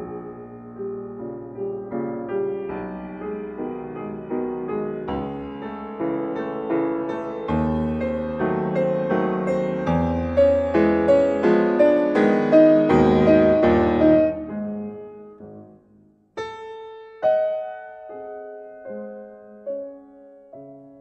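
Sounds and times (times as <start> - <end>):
slow solo piano: 0.0 - 21.0.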